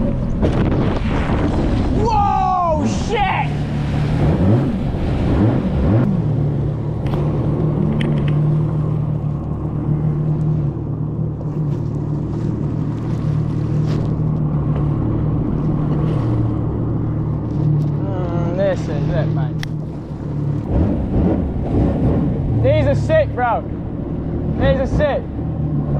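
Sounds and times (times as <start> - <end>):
jet ski engine running: 0.0 - 25.9
rushing wind and water: 0.0 - 25.9.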